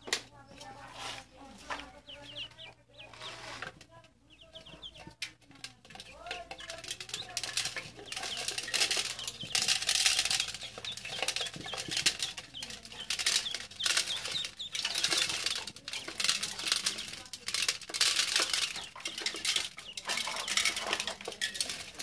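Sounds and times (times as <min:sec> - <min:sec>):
ducklings peeping: 0:00.0 - 0:22.0
pellets pattering on metal: 0:00.0 - 0:22.0.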